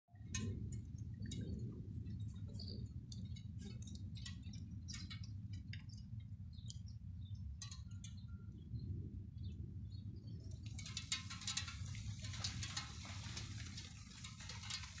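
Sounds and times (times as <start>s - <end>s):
wind rumbling on microphone: 0.1s - 15.0s.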